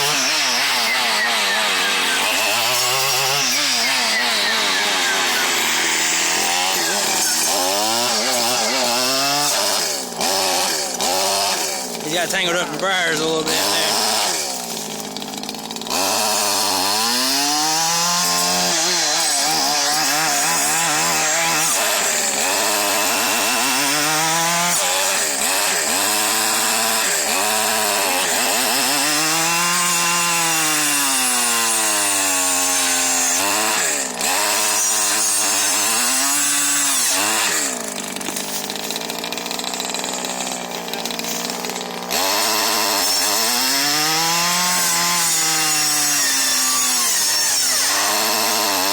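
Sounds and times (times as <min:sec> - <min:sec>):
brushcutter engine revving: 0:00.0 - 0:48.9
saw blade cutting brush: 0:00.0 - 0:48.9.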